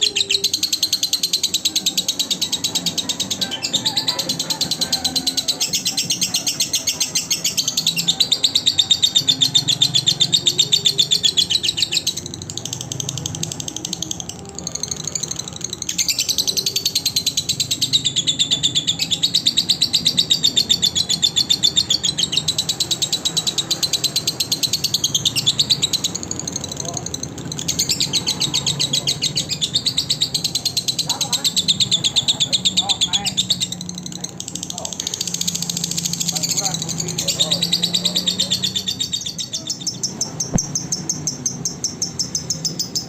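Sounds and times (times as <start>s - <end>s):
lovebird chirping: 0.0s - 43.0s.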